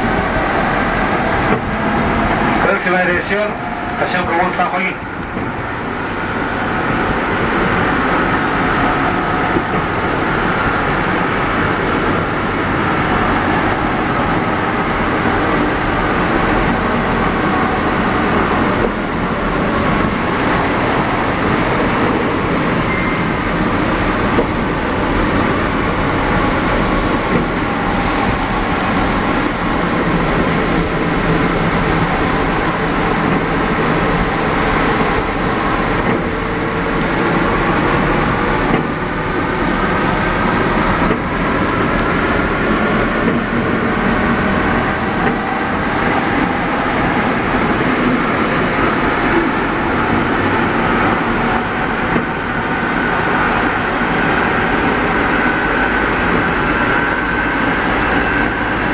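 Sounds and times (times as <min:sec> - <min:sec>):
train rolling rumble: 0:00.0 - 0:58.9.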